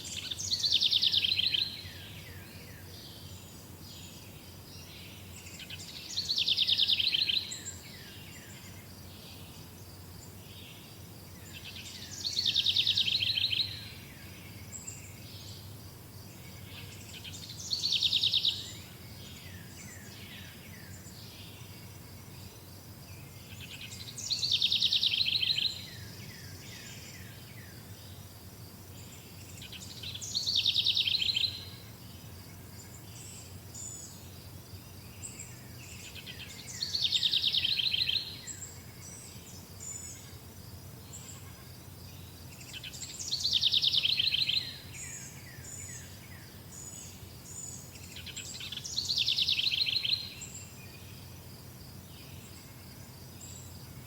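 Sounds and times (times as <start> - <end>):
songbird singing with trill: 0.0 - 28.3, 28.9 - 40.4, 41.0 - 54.0
faint background hiss: 0.0 - 54.0.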